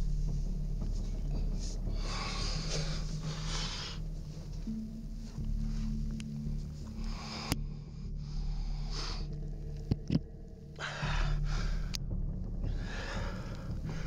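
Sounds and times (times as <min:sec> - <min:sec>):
low steady hum: 0:00.0 - 0:14.0
person breathing close to microphone: 0:00.1 - 0:10.0, 0:10.7 - 0:14.0.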